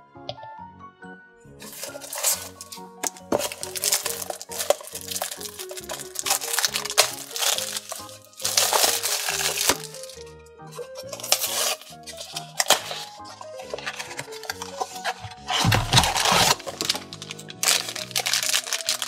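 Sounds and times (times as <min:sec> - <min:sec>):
background music: 0:00.0 - 0:19.0
plastic wrap crinkling: 0:01.6 - 0:19.0.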